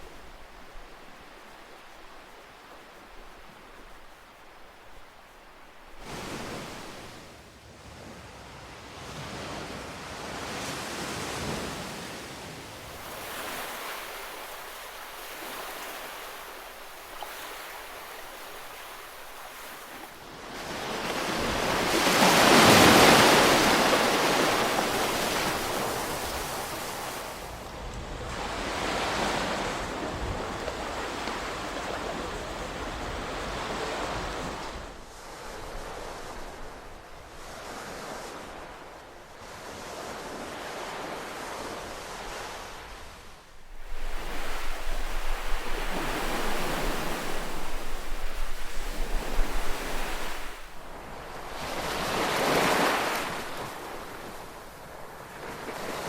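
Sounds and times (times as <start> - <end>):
ocean waves breaking: 0.0 - 7.4, 9.2 - 27.6, 28.3 - 56.0.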